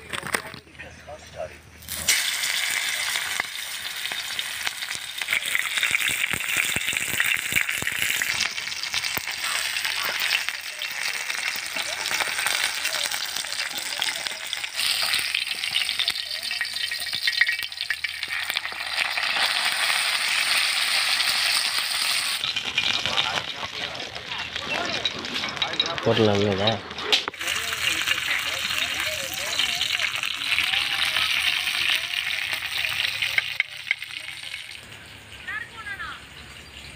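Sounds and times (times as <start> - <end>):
fish sizzling in oil: 1.8 - 35.6.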